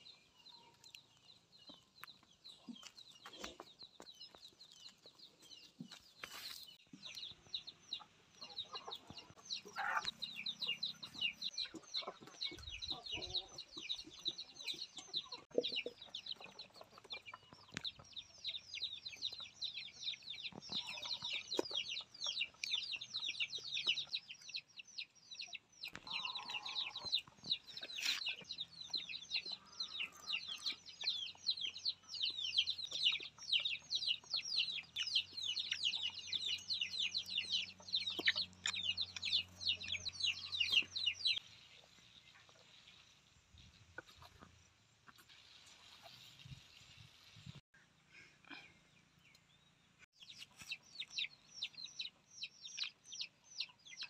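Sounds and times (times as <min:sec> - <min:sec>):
chicks peeping: 0:00.0 - 0:47.6, 0:48.5 - 0:54.0.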